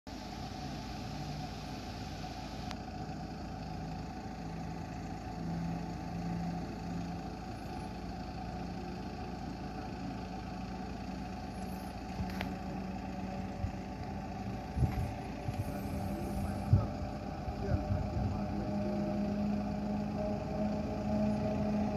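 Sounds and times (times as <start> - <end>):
vehicle engine running at low revs: 0.1 - 21.9.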